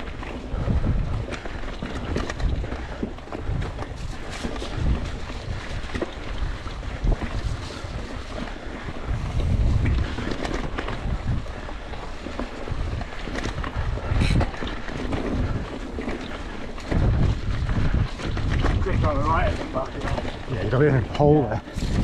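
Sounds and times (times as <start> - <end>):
bike knocking and rattling: 0.0 - 22.0
tyres rumbling on dirt trail: 0.0 - 22.0
wind buffeting microphone: 0.0 - 22.0.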